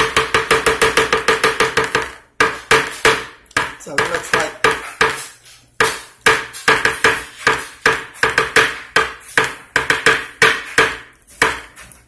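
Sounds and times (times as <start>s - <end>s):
metal spoon tapping plastic tub: 0.0s - 12.0s.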